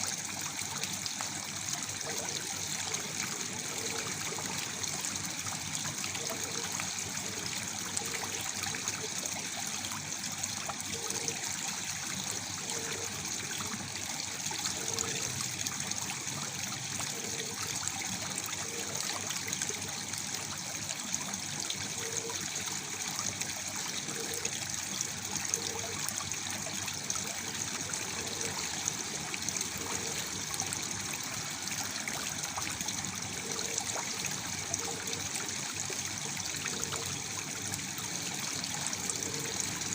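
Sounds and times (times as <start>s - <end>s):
low water gurgle: 0.0s - 39.9s
waterfall pouring and splashing: 0.0s - 39.9s.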